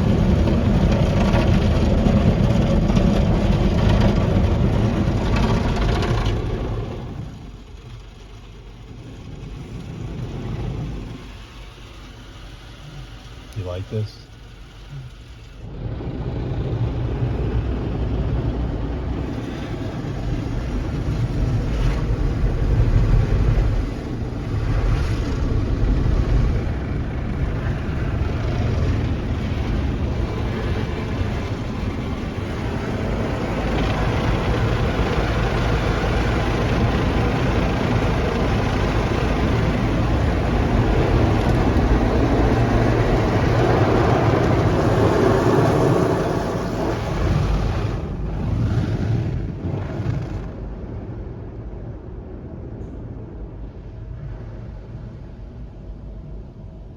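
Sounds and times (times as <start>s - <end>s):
water spraying on car body: 0.0s - 49.7s
car wash machinery rumble: 0.0s - 56.9s.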